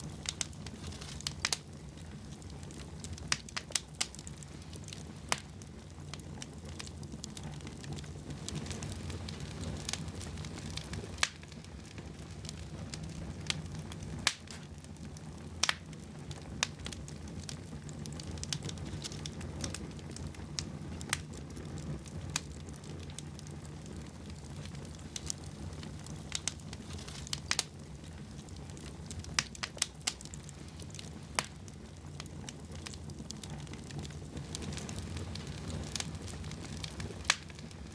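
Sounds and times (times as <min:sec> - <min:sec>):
fire pops: 0:00.0 - 0:37.9
wood fire crackling: 0:00.0 - 0:37.9.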